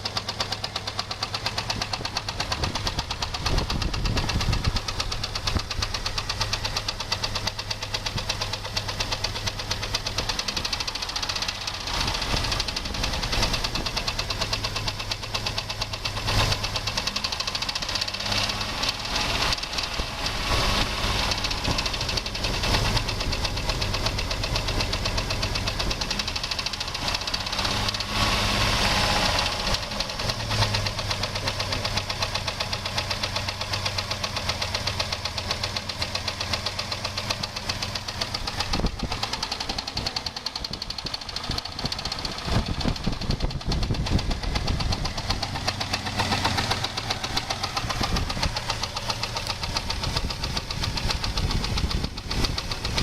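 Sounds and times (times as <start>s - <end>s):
car engine knocking: 0.0s - 53.0s.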